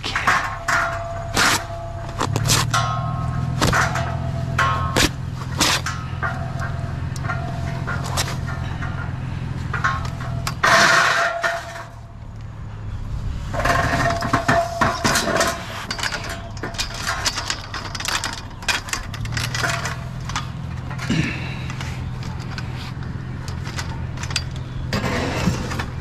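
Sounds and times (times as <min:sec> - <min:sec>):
metal scrap clanking: 0:00.0 - 0:12.6, 0:13.2 - 0:26.0
low hum: 0:00.0 - 0:26.0.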